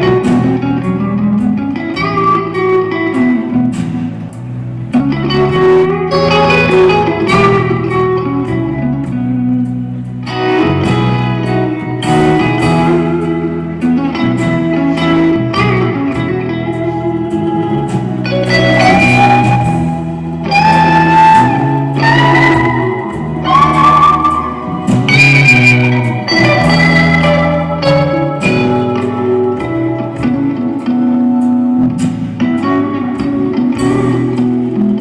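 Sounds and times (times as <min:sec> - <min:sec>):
bass line: 0:00.0 - 0:35.0
live band playing: 0:00.0 - 0:35.0
plucked guitar notes: 0:00.0 - 0:35.0.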